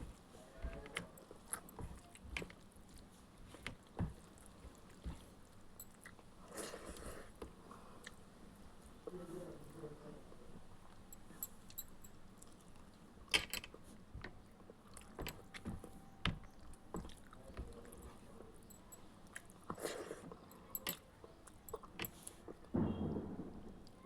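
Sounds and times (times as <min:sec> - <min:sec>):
person chewing food: 0:00.0 - 0:08.2, 0:10.8 - 0:22.7.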